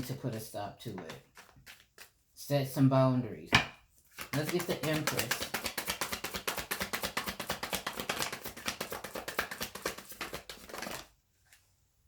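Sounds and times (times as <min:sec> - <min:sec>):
cards being shuffled: 0:00.1 - 0:02.2, 0:04.0 - 0:11.7.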